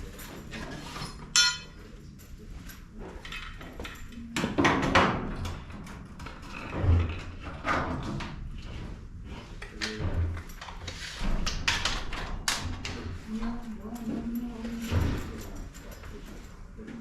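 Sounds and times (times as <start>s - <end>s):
knocks and rattling clanks: 2.6s - 17.0s.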